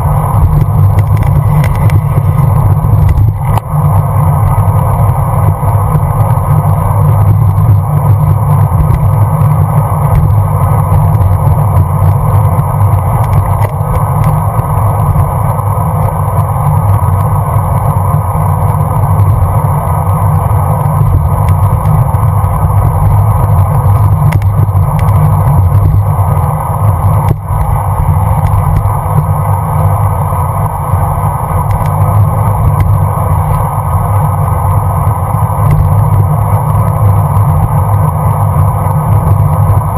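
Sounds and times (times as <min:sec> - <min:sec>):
road noise low rumble: 0:00.0 - 0:39.9
wind rush: 0:00.0 - 0:39.9.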